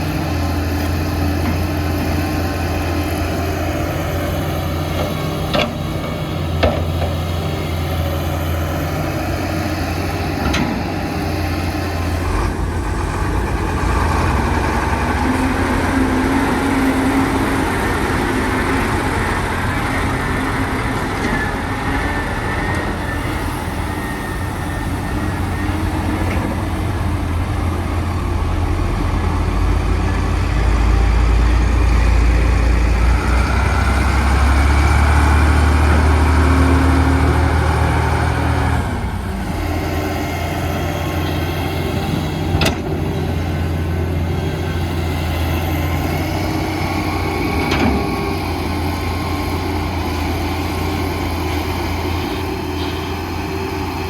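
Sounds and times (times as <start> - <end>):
diesel machinery engine: 0.0 - 54.0.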